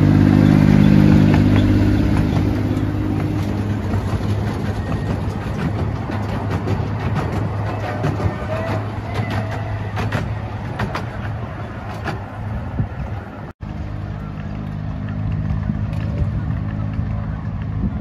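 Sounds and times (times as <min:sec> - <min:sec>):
miniature train running on track: 0:00.0 - 0:18.0
wheels clicking on track: 0:00.0 - 0:18.0.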